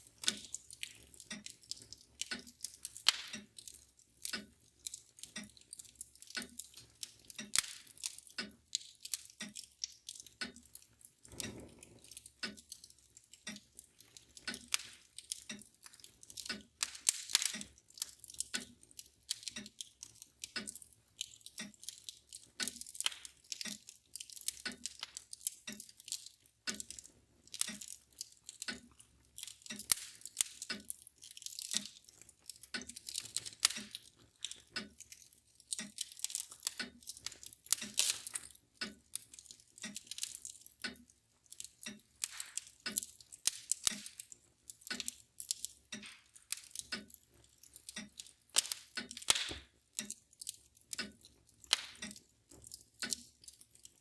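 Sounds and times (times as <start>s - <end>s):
mantle clock ticking: 0.0s - 54.0s
wood fire crackling: 0.0s - 54.0s.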